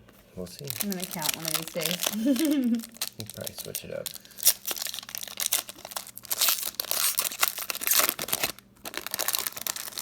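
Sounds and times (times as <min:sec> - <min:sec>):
wrapper tearing and crinkling: 0:00.6 - 0:10.0.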